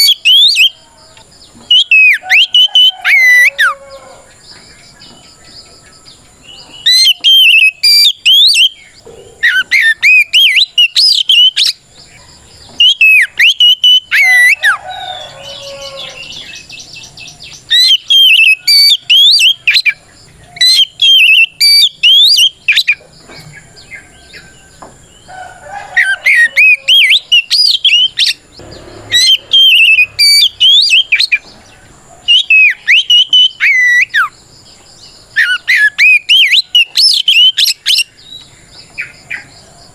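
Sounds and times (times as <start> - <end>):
magpie-robin whistled song: 0.0 - 3.8, 4.5 - 25.3, 26.0 - 34.4, 35.0 - 39.5.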